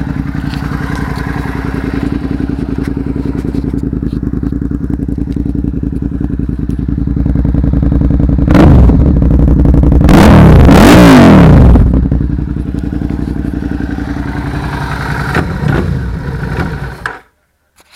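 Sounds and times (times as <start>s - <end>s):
motorcycle engine idling and revving: 0.0s - 17.4s.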